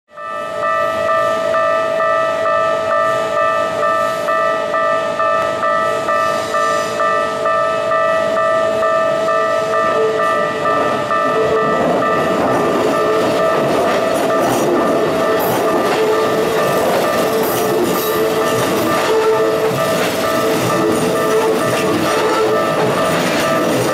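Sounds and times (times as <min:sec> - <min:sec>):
level crossing bell ringing: 0:00.2 - 0:23.9
train rumble and wheel clatter: 0:00.3 - 0:23.9.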